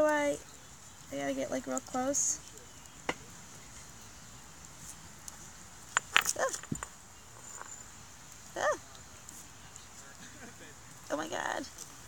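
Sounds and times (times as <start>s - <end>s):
campfire crackling: 0.0s - 12.0s
wood snapping in fire: 0.0s - 12.0s.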